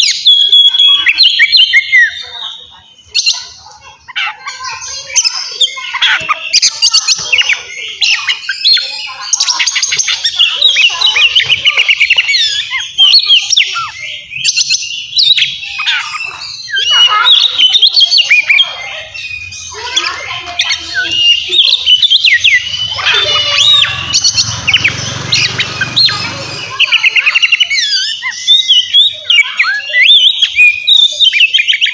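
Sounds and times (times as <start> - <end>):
songbird singing whistles and trills: 0.0 - 31.9.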